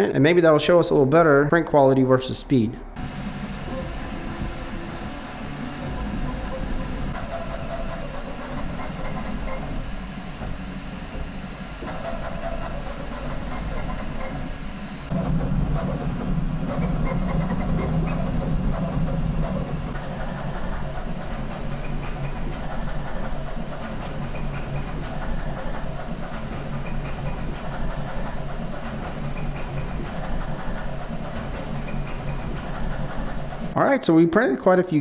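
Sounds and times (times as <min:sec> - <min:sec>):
printer motors and fans whirring: 0:00.0 - 0:35.0.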